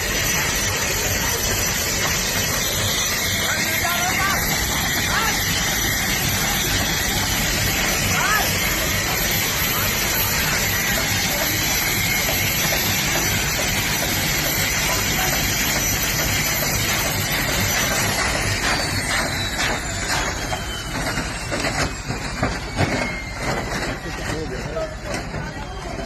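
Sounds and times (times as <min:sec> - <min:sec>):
helicopter engine and rotor: 0:00.0 - 0:26.0
high turbine whine: 0:00.0 - 0:26.0.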